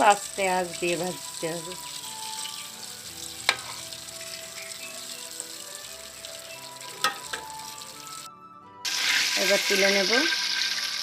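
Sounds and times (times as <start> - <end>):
chicken sizzling in deep-frying oil: 0.0 - 11.0.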